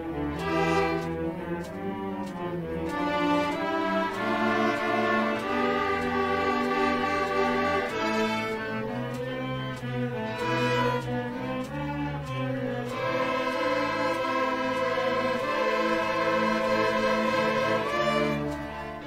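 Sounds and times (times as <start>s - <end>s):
string orchestra sustained chords: 0.0s - 19.0s.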